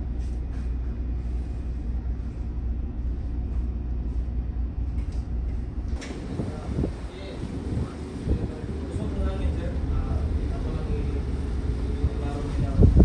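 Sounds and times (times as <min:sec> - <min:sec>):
ship low rumble: 0:00.0 - 0:13.0.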